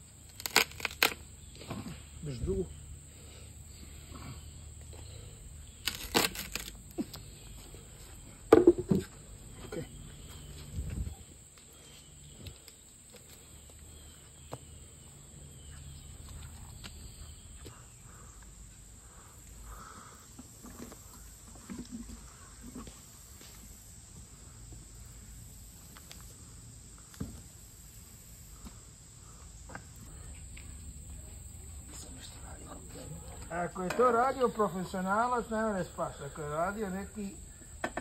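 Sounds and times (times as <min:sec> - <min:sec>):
insect drone: 0:00.0 - 0:38.0.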